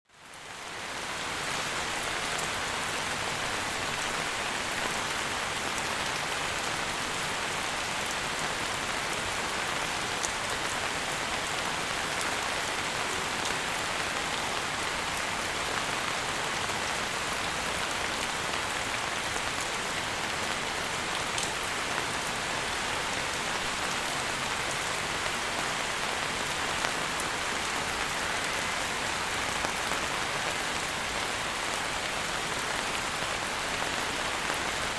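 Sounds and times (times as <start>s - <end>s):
steady rain: 0.1s - 34.9s.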